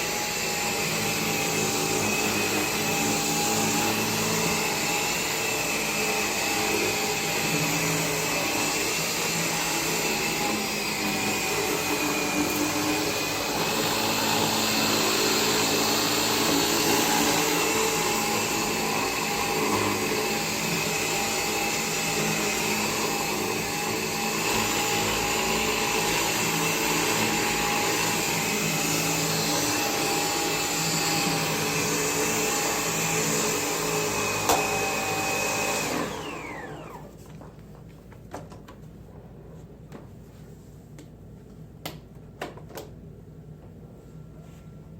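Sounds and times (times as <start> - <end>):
stick vacuum running: 0.0 - 37.2.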